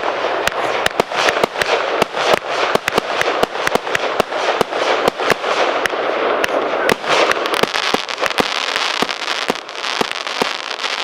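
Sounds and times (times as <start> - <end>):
firework bangs: 0.0 - 11.0
firework crackle: 0.0 - 11.0.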